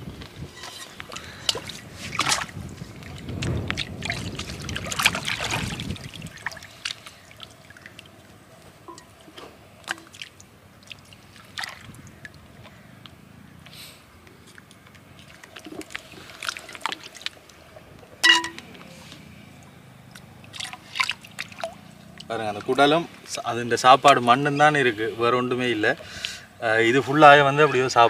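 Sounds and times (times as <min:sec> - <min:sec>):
water splashing and trickling: 0:00.1 - 0:13.4, 0:14.0 - 0:28.0.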